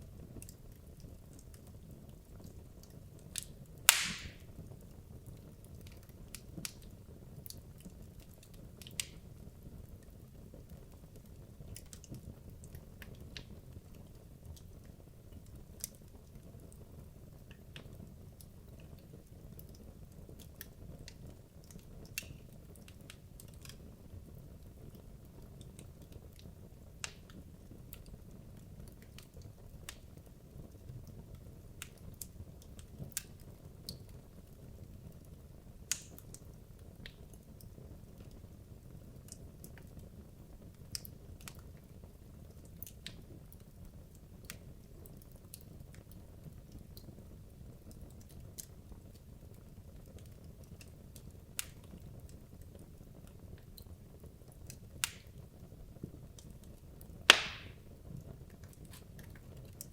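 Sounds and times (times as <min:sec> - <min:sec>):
fire rumbling: 0:00.0 - 0:59.9
logs crackling and popping: 0:00.0 - 0:59.9.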